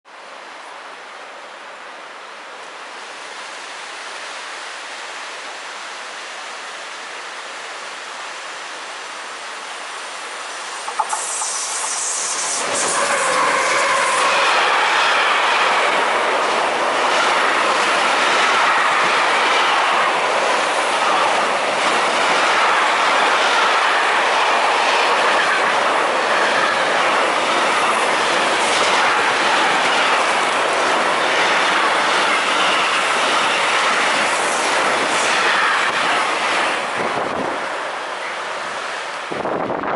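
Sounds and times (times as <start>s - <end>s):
freight train rushing past: 2.8s - 39.9s.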